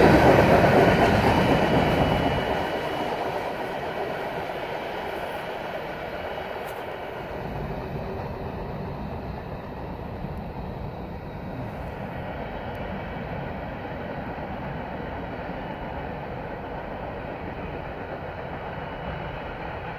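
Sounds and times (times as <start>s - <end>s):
freight train rumbling: 0.0s - 19.9s.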